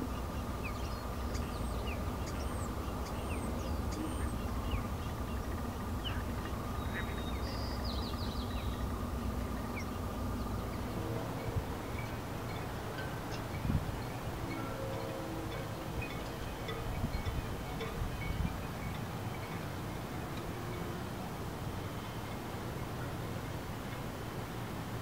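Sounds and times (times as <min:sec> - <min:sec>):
faint hum: 0:00.0 - 0:25.0
low outdoor rumble: 0:00.0 - 0:25.0.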